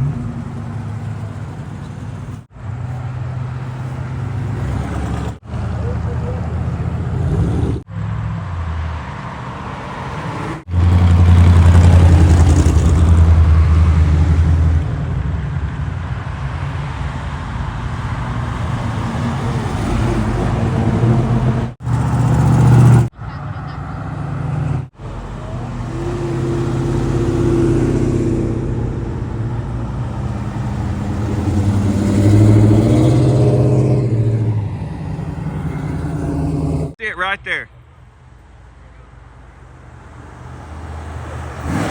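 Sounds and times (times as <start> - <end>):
car engines driving past: 0.0 - 37.0, 38.3 - 41.9.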